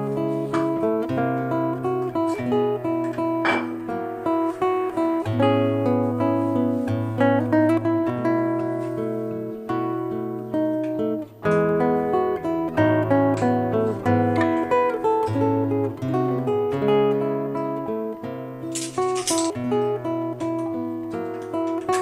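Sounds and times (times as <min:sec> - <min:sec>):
acoustic guitar tune: 0:00.0 - 0:22.0.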